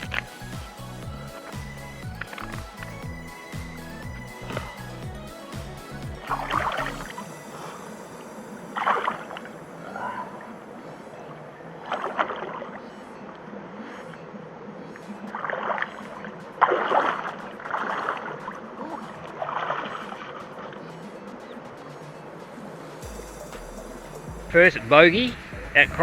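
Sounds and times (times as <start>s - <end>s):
water splashing in a creek: 0.0s - 7.5s, 8.2s - 13.8s, 15.0s - 22.8s.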